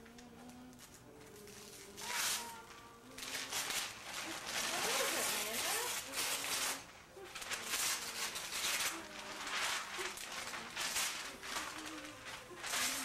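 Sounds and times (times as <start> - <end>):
wrapping paper tearing: 0.0 - 13.0.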